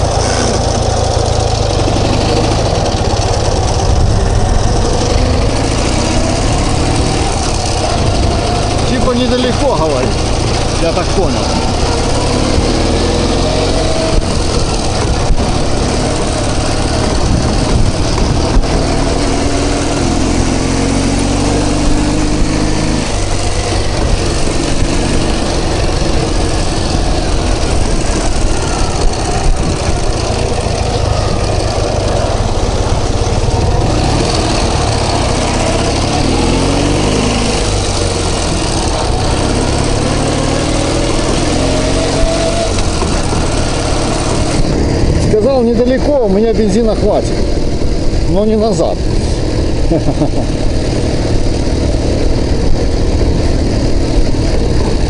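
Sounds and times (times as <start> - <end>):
wind noise on microphone: 0.0 - 9.1, 10.0 - 50.0, 50.6 - 55.0
motorcycle engine running: 0.0 - 55.0.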